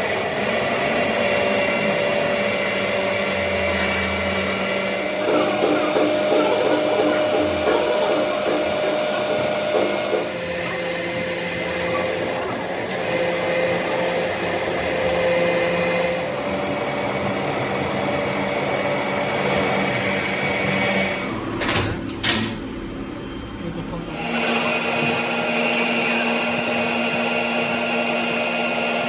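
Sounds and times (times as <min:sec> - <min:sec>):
metalworking machine whine: 0:00.0 - 0:29.0.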